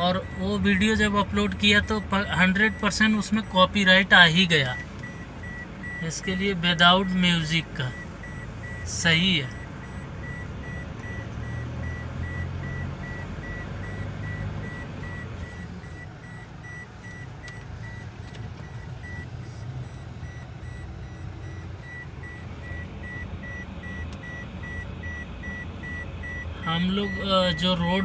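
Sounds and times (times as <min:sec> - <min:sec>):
car engine and road rumble: 0:00.0 - 0:28.0
dashboard warning beeps: 0:00.0 - 0:28.0.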